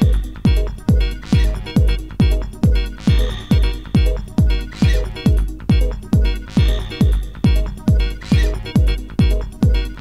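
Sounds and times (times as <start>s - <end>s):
high ticking percussion: 0.0s - 10.0s
repeating synth chords: 0.0s - 10.0s
techno kick drum: 0.0s - 10.0s.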